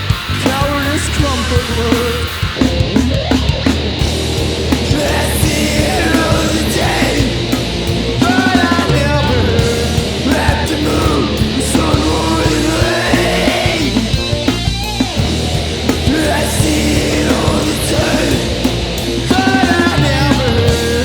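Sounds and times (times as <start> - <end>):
heavy rock band playing live: 0.0 - 21.0.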